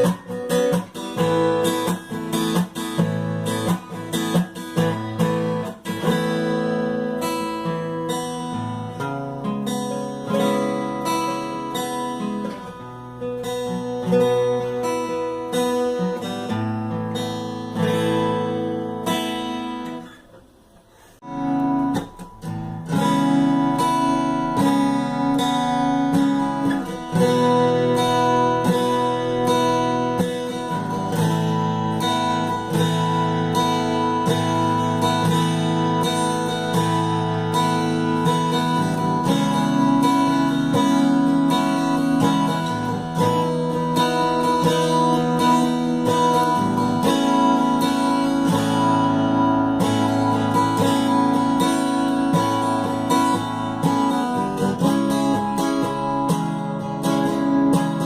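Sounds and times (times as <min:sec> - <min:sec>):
acoustic guitar playing: 0:00.0 - 0:58.0.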